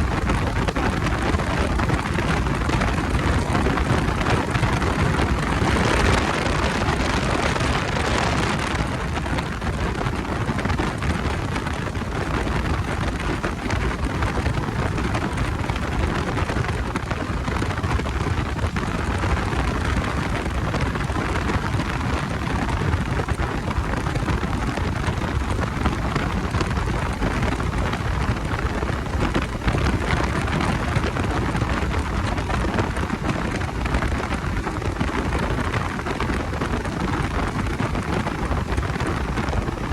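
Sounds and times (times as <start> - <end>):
motorcycle road noise: 0.0 - 39.9
rushing wind: 0.0 - 39.9.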